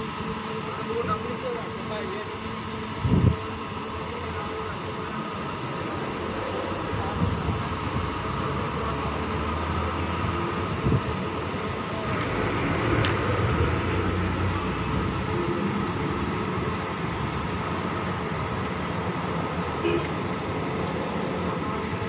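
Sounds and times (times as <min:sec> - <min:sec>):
fan running: 0:00.0 - 0:22.0.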